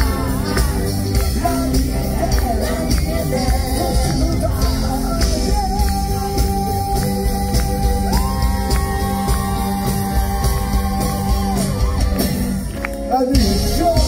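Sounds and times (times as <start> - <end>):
live band playing pop-rock: 0.0 - 14.0.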